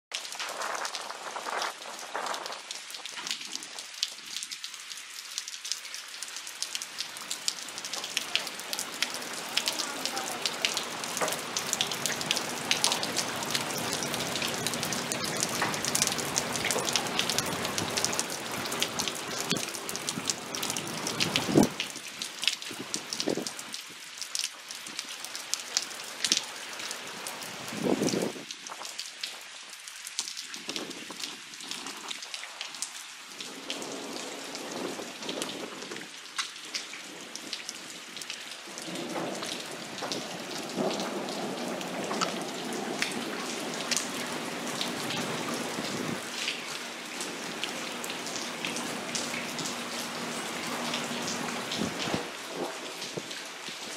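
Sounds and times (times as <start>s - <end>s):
heavy rain pouring: 0.1s - 53.9s.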